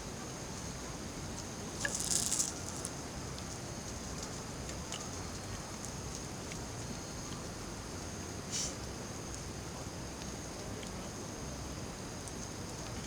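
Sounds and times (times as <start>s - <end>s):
campfire hiss: 0.4s - 13.0s.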